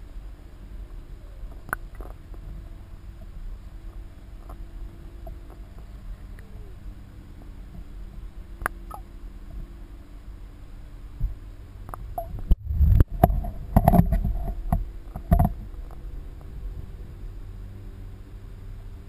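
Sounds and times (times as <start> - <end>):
low underwater rumble: 0.0 - 19.0.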